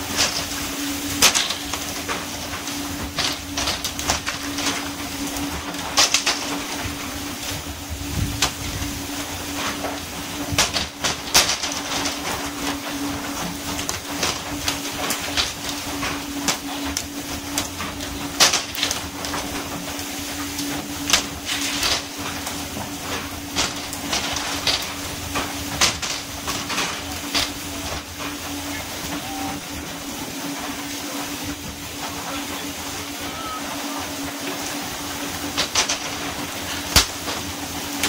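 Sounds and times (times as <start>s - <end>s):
boat engine hum: 0.0s - 38.0s
water spray hissing along hull: 0.0s - 38.0s.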